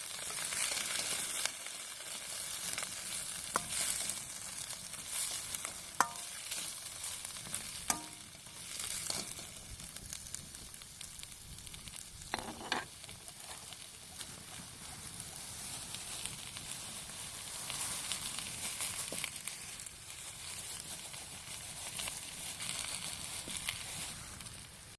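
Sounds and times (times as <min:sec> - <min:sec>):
food sizzling in a wok: 0:00.0 - 0:24.9.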